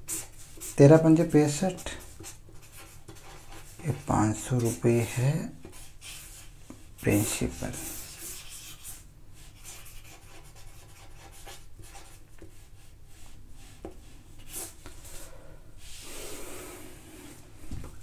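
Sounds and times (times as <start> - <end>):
marker pen scratching on paper: 0.0 - 14.8.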